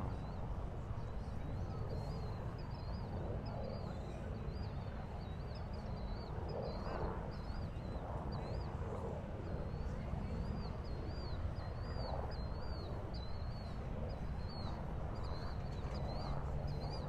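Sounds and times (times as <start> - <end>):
faint distant voices: 0.0 - 17.0.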